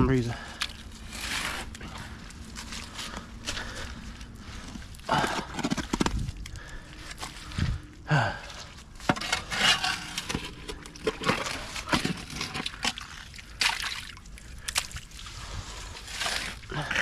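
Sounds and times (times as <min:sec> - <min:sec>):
sloshing and scraping of mud: 0:00.4 - 0:17.0.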